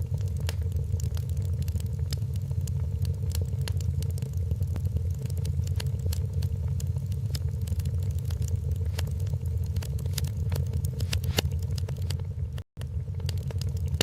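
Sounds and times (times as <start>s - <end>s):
faint steady hum: 0.0s - 14.0s
wood fire crackling: 0.0s - 14.0s.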